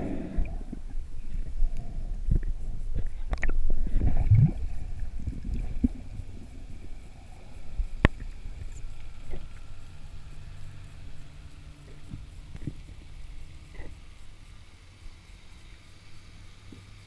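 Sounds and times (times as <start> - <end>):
underwater rumble of moving water: 0.0 - 17.0.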